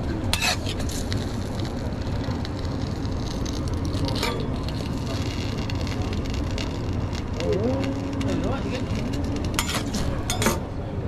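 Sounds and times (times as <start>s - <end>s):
low machinery rumble: 0.0s - 11.0s
rasping scrape: 0.3s - 10.6s.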